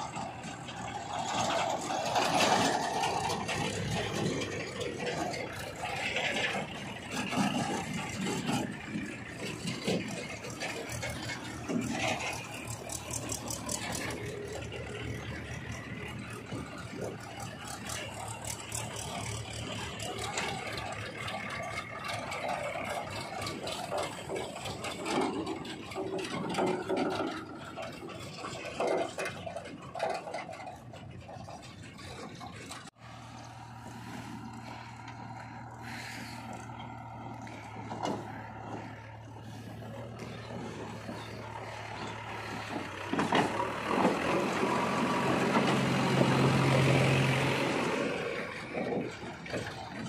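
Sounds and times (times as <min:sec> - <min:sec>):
diesel engines running: 0:00.0 - 0:50.0
metal rattling and scraping: 0:00.0 - 0:50.0.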